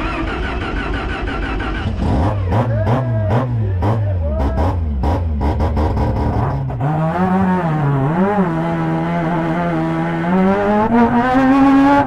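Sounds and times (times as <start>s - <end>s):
race truck engine revving: 0.0s - 12.0s.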